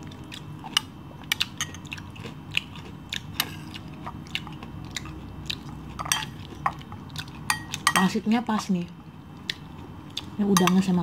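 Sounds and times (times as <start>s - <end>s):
eating sounds: 0.0s - 8.7s, 9.3s - 10.8s.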